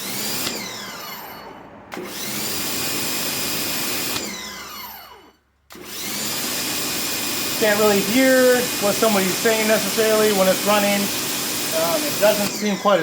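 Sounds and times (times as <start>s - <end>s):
pressure washer motor whining: 0.0s - 13.0s.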